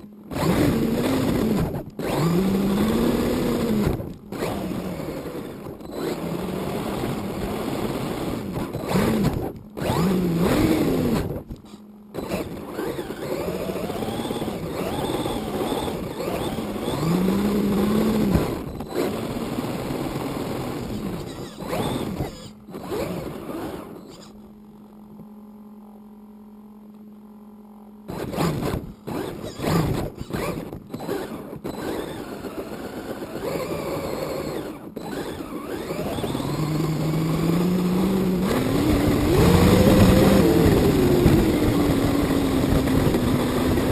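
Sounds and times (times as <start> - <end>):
rc car motor whining: 0.0 - 24.4, 28.1 - 43.9
faint steady hum: 0.0 - 43.9.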